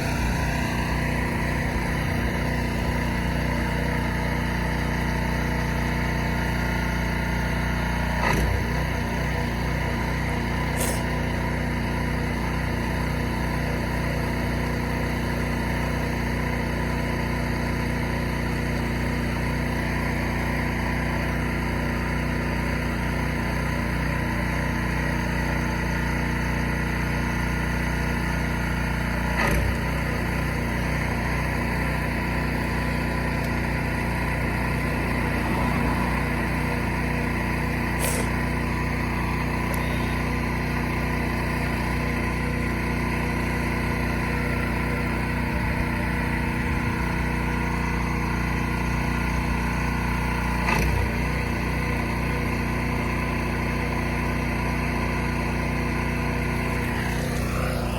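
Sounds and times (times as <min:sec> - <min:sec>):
engine idling: 0:00.0 - 0:57.9.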